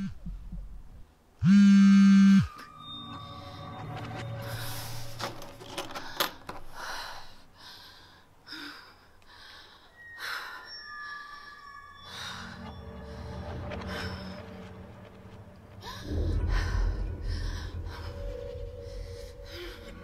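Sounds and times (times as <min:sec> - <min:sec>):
background music with held tones: 0:01.5 - 0:06.9, 0:09.2 - 0:20.0.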